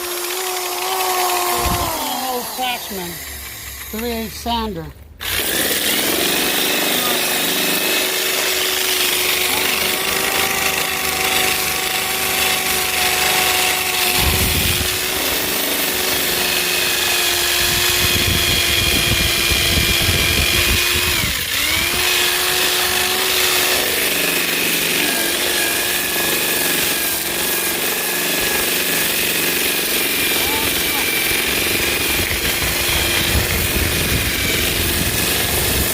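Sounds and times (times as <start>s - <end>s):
sander motor whining: 0.0s - 35.9s
wheel grinding metal: 0.0s - 35.9s.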